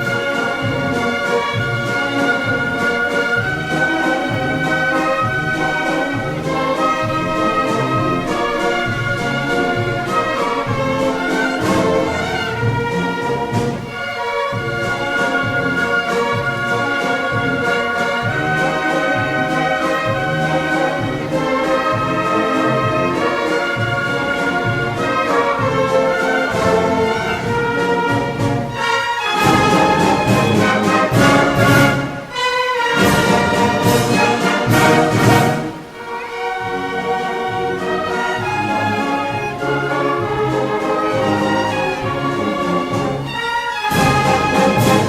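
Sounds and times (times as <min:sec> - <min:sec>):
orchestra playing a waltz: 0:00.0 - 0:45.0.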